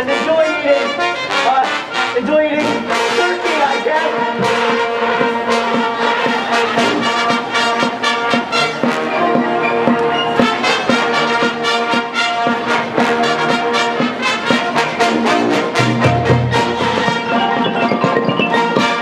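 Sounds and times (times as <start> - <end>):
brass marching band music: 0.0 - 19.0.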